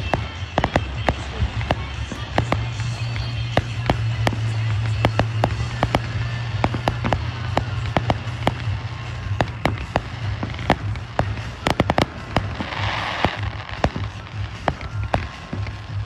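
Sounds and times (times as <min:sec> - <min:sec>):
fireworks bangs and pops: 0:00.0 - 0:16.0
fireworks crackling hiss: 0:00.0 - 0:16.0.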